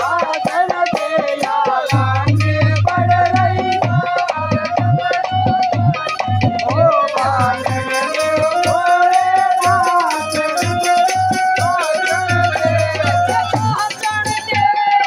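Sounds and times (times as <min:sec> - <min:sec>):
hand drum beat: 0:00.0 - 0:15.0
high voice singing: 0:00.0 - 0:15.0
jingling rattle percussion: 0:00.0 - 0:15.0.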